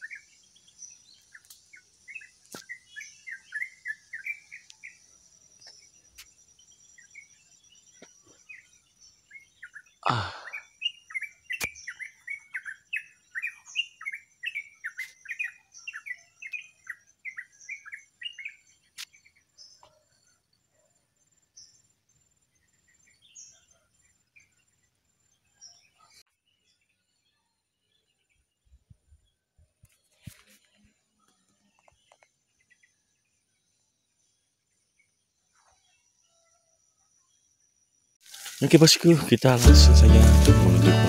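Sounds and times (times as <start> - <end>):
songbird chirping: 0.0 - 41.0.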